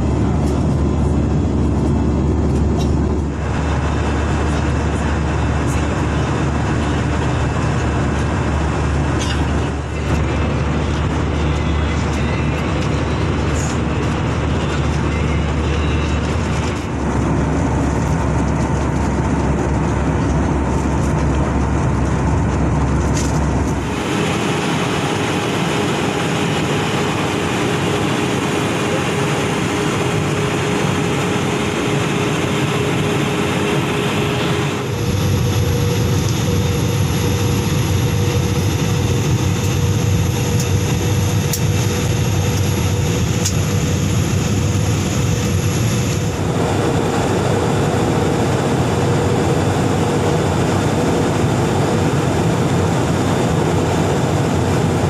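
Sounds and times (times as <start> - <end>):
airliner cabin engine noise: 0.0 - 55.0.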